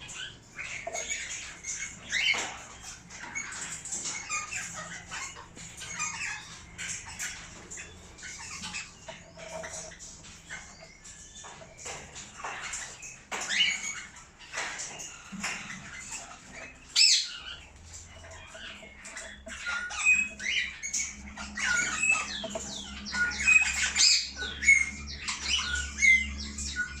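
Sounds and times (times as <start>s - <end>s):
cockatiels squawking and chirping: 0.0s - 27.0s.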